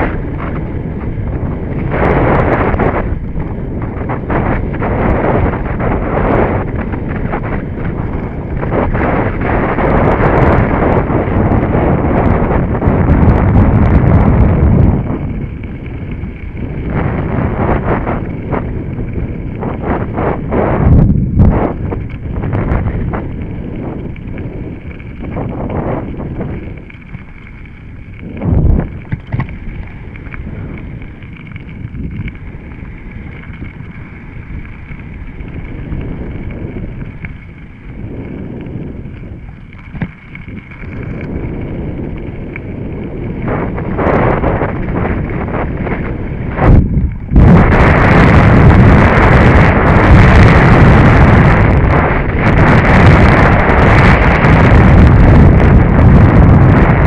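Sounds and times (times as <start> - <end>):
bike tyres rumbling on dirt: 0.0 - 57.0
wind on microphone: 0.0 - 57.0.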